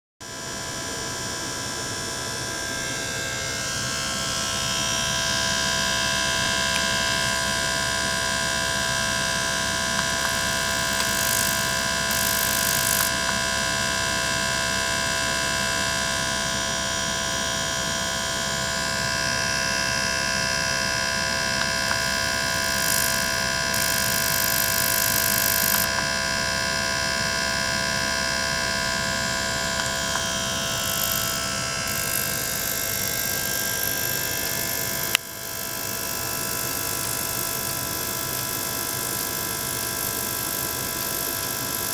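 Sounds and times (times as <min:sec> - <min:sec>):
pump motor hum: 0:00.2 - 0:41.9.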